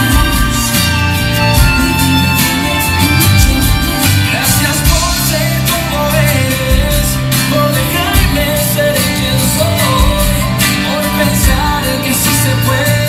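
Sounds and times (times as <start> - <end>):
pop music with singing: 0.0 - 13.0.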